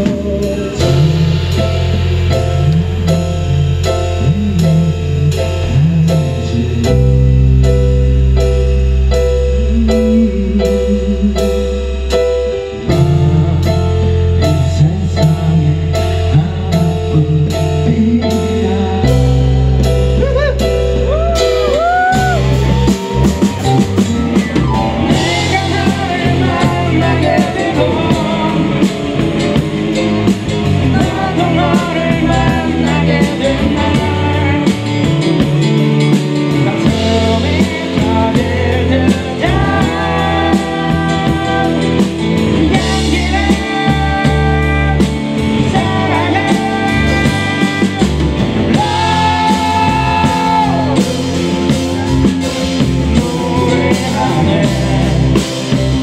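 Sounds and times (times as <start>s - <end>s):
rock song with singing: 0.0s - 56.0s.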